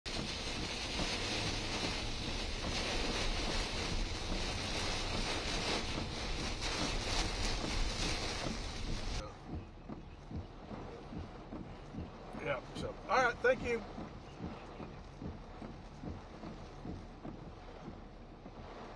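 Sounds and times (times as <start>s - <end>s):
torrential rain: 0.0s - 18.9s
wind buffeting microphone: 0.1s - 18.9s.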